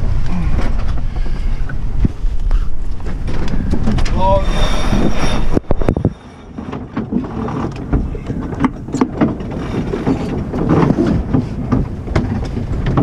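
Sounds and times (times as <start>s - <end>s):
rushing wind: 0.0s - 13.0s
water noise: 0.0s - 13.0s.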